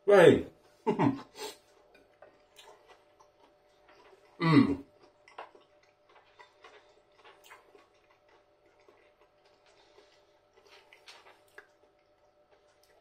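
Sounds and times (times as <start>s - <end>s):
faint steady hum: 0.0s - 13.0s
person chewing food: 0.6s - 13.0s.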